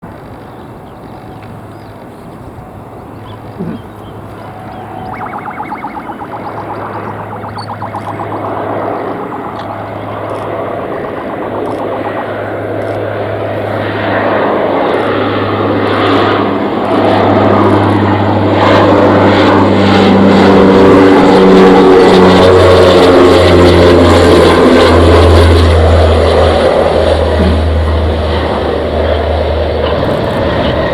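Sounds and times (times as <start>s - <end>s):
propeller aircraft passing: 2.7s - 30.9s.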